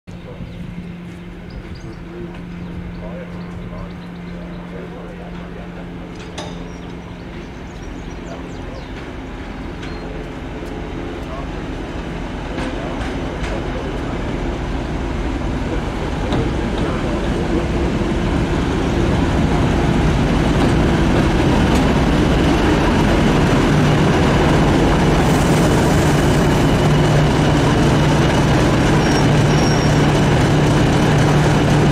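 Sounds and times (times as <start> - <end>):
diesel locomotive engine running: 0.1 - 31.9
steady low hum: 0.1 - 31.9.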